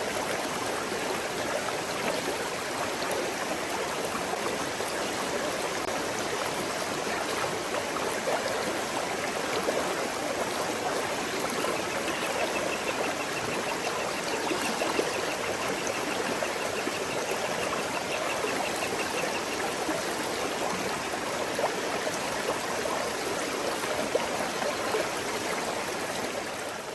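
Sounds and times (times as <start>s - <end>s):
stream babbling over stones: 0.0s - 26.9s.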